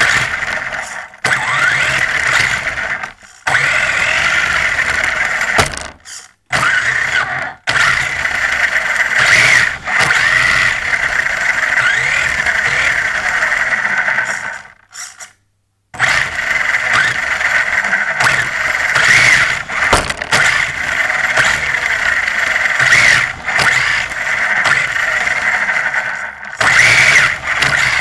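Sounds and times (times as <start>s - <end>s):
electric motor whining: 0.0s - 14.7s, 16.0s - 28.0s.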